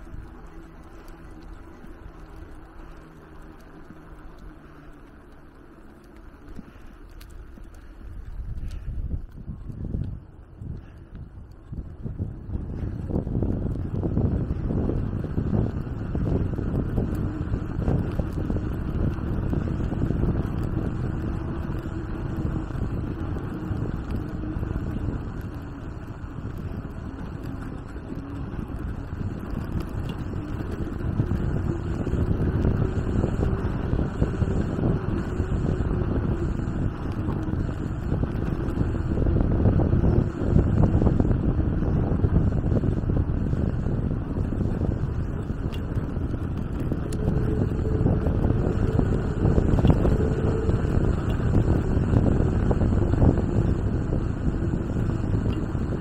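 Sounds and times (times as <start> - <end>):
bicycle road rumble: 0.0 - 56.0
wind buffeting microphone: 0.0 - 56.0.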